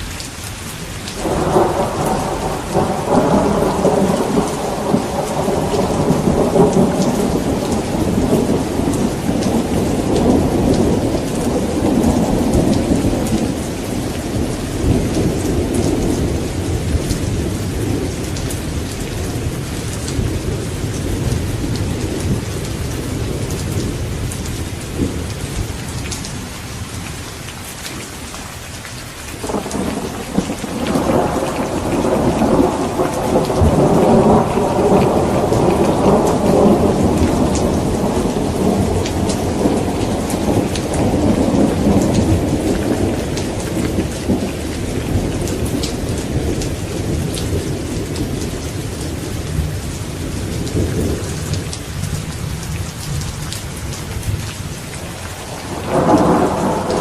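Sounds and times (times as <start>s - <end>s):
heavy rain: 0.0s - 57.0s
rolling thunder: 1.1s - 26.1s, 29.4s - 57.0s.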